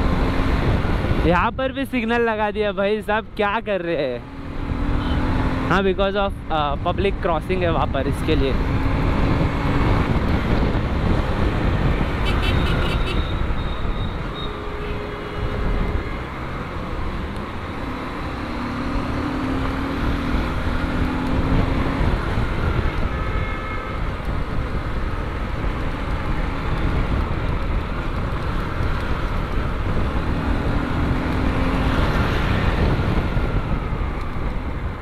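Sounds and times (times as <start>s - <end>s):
wind noise: 0.0s - 3.4s, 4.3s - 35.0s
traffic vehicles: 0.0s - 35.0s.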